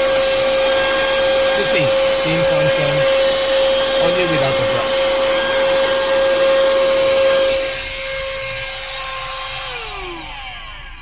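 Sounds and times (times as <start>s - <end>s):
handheld vacuum whine: 0.0s - 11.0s
vacuum motor spinning down: 0.0s - 11.0s.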